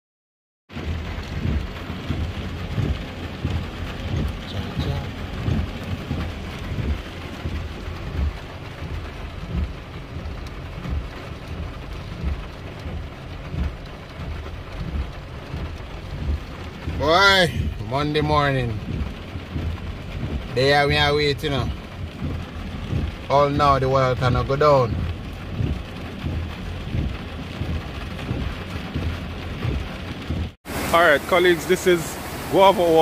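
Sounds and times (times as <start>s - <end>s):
car rumbling on the road: 0.7s - 33.0s
rain falling on a car: 0.7s - 33.0s.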